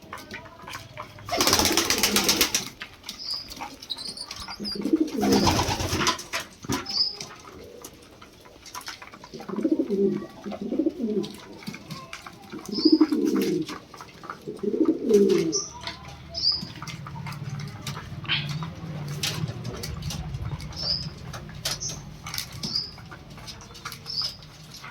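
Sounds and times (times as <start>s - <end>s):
pigeons cooing: 0.7s - 24.9s.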